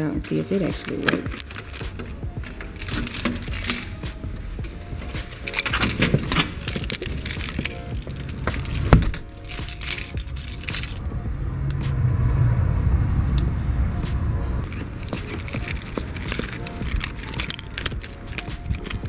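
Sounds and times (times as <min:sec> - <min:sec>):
handling knocks: 0:00.0 - 0:11.1, 0:14.6 - 0:19.0
steady low rumble: 0:00.0 - 0:19.0
keys jangling: 0:00.2 - 0:11.3, 0:14.6 - 0:19.0.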